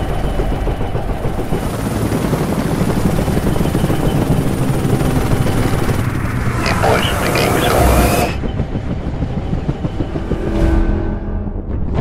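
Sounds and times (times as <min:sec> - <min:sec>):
helicopter rotor and engine: 0:00.0 - 0:10.8.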